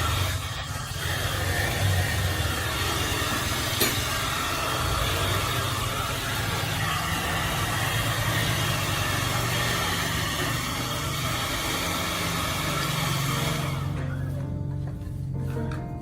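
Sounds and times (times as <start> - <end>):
rushing air hiss: 0.0 - 14.2
small electric motor humming: 0.0 - 15.3.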